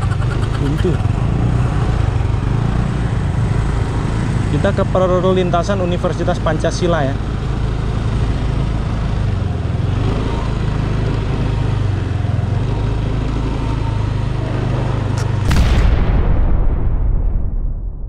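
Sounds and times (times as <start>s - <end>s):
motor scooter engine running: 0.0s - 15.5s
wind and road noise: 0.0s - 18.0s.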